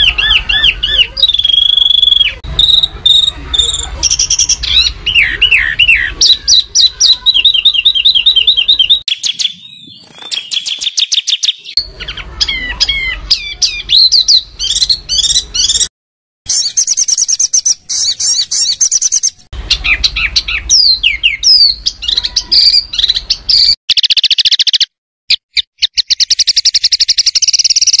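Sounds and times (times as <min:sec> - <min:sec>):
harsh songbird calls and trills: 0:00.0 - 0:15.9, 0:16.5 - 0:28.0.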